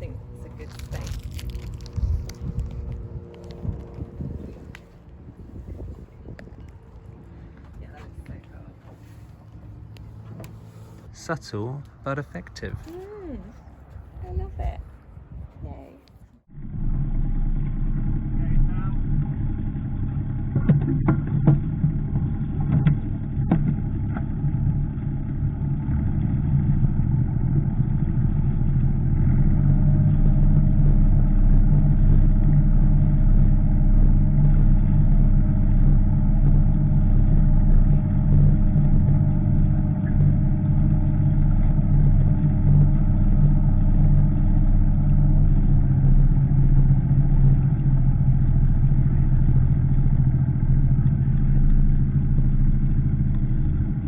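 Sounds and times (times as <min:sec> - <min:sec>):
engine running at low revs: 0:00.0 - 0:54.0.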